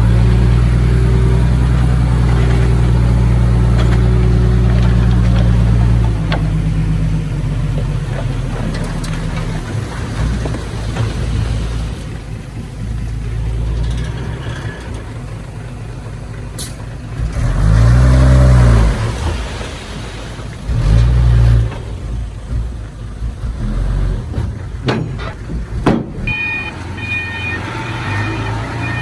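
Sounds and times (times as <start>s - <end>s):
heavy diesel engine revving: 0.0s - 29.0s.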